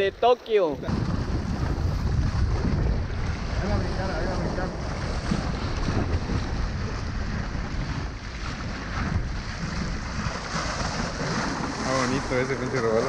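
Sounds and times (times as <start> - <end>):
waves washing against rocks: 0.0 - 13.0
wind buffeting the microphone: 0.0 - 13.0.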